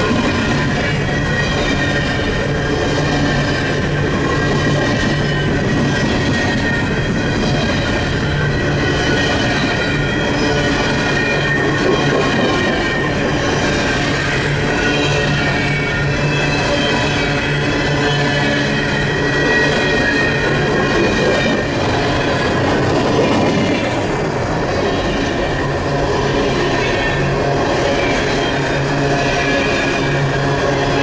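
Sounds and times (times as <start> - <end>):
freight train wheels rolling: 0.0 - 31.0
high wheel squeal: 0.4 - 23.0, 24.8 - 31.0.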